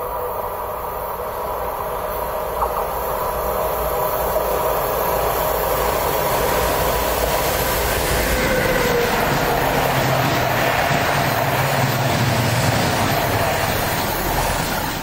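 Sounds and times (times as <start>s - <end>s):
freight train passing: 0.0s - 15.0s.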